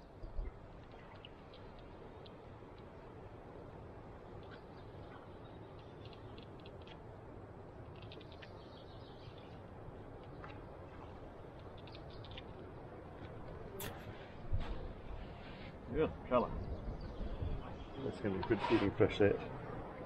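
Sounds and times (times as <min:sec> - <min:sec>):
faint outdoor background noise: 0:00.0 - 0:20.0.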